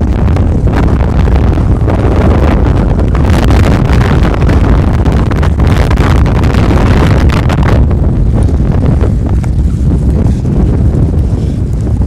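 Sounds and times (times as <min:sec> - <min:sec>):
choppy lake water: 0:00.0 - 0:12.0
gusty wind buffeting microphone: 0:00.0 - 0:12.0.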